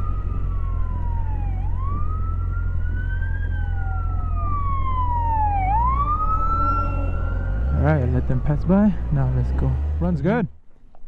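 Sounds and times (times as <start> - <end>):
emergency vehicle sirens wailing: 0.0 - 10.1.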